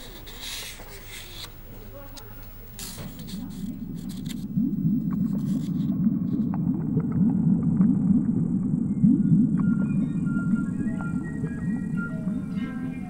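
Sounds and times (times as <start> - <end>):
underwater churning rumble: 2.5 - 13.0.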